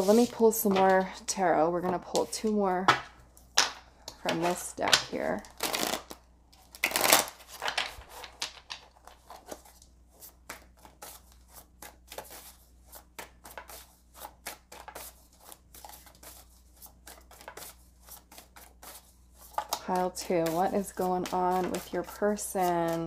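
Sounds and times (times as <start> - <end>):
cards being shuffled: 4.3 - 23.0.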